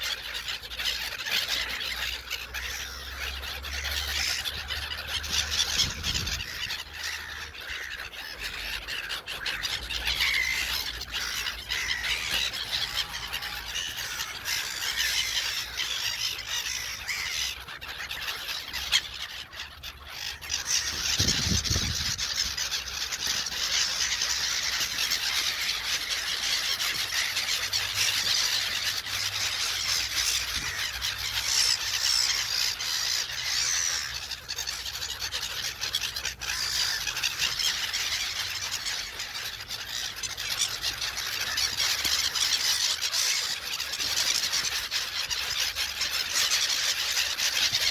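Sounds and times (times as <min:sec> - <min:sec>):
gulls calling: 0:00.0 - 0:47.9.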